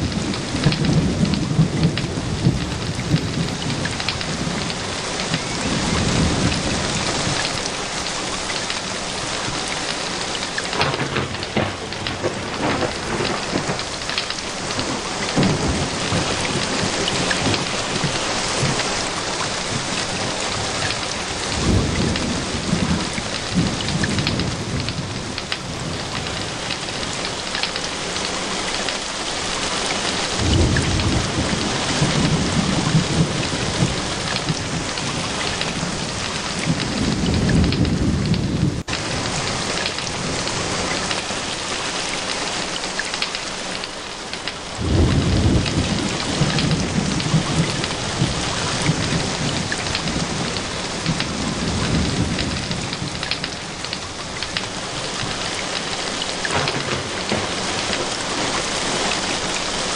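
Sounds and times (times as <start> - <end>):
low rolls of thunder: 0.0 - 27.3, 30.1 - 41.7, 44.3 - 59.9
heavy rain falling: 0.0 - 59.9.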